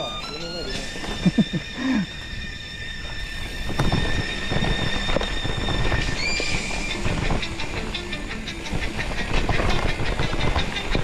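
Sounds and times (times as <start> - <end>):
disc brake squeal: 0.0 - 11.0.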